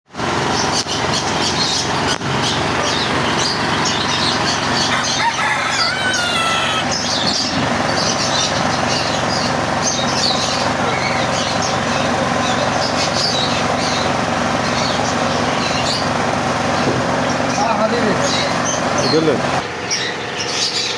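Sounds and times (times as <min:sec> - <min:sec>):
caged birds chirping: 0:00.1 - 0:20.9
busy market noise: 0:00.2 - 0:20.9.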